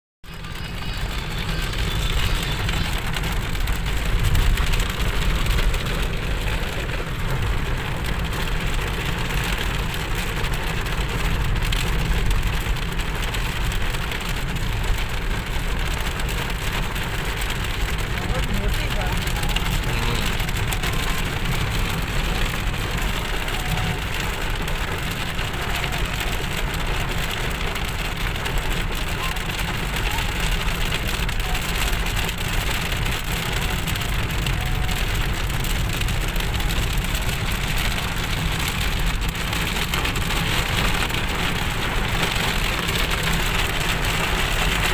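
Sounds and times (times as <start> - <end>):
moving vehicle rumble: 0.2 - 44.9
steady rain falling: 0.3 - 44.9.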